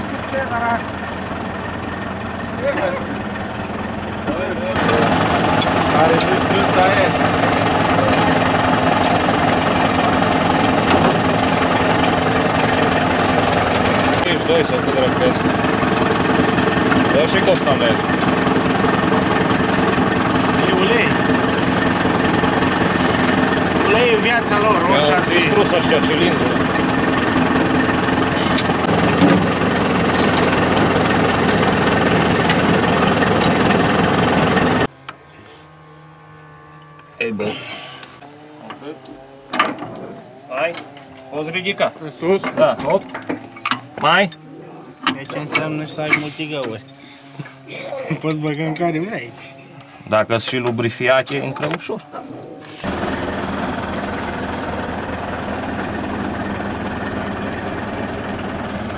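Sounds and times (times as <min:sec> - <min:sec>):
tractor diesel engine idling: 0:00.0 - 0:35.7, 0:37.0 - 0:58.9.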